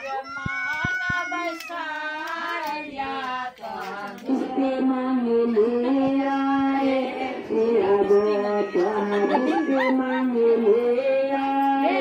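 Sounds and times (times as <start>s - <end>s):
women singing a folk song: 0.0s - 12.0s.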